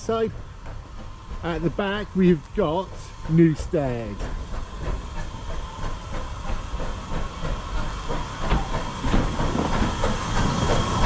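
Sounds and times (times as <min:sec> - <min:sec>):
steam hissing: 0:00.0 - 0:11.0
train wheels clattering on rails: 0:00.0 - 0:11.0.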